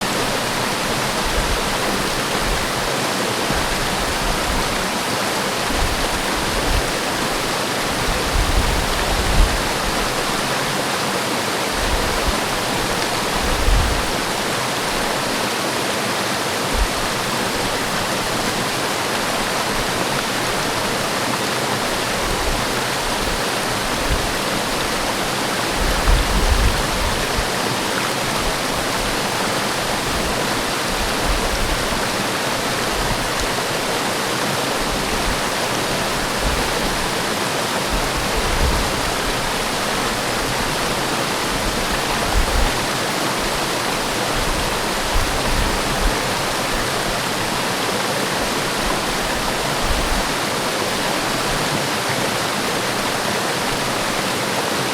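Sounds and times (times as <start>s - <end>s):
waterfall roaring: 0.0s - 54.9s.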